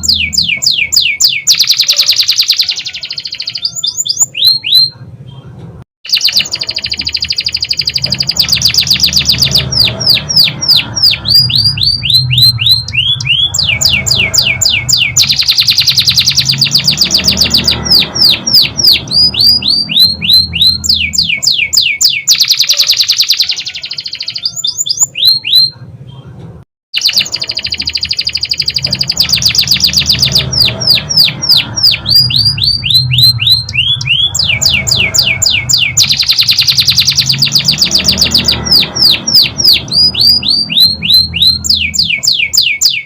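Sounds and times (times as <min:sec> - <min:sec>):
canary singing: 0:00.0 - 0:26.3, 0:26.9 - 0:43.0.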